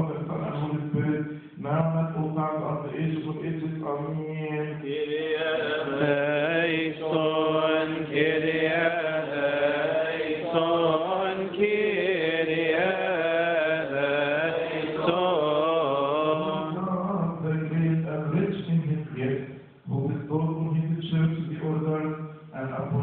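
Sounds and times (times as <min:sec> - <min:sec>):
man chanting a hymn: 0:00.0 - 0:23.0.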